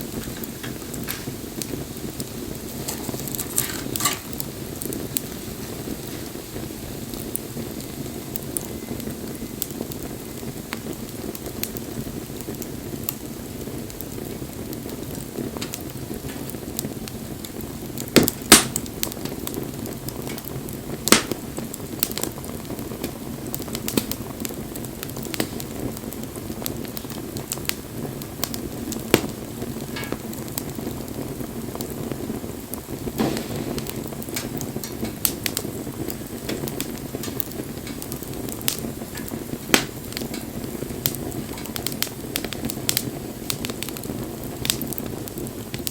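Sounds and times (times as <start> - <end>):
bonfire flames rushing: 0.0 - 45.9
fire crackling and popping: 0.0 - 45.9.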